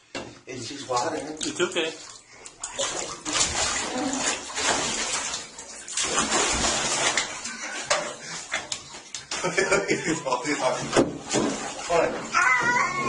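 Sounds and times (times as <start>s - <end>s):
water splashing in a bathtub: 0.0s - 13.0s.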